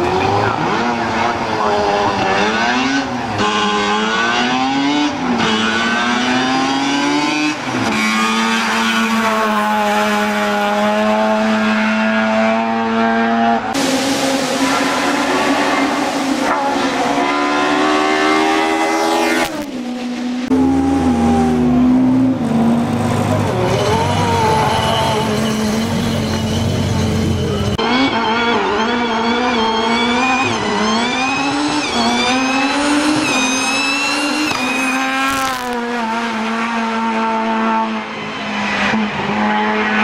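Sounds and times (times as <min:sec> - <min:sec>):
race car engine at full throttle: 0:00.0 - 0:40.0.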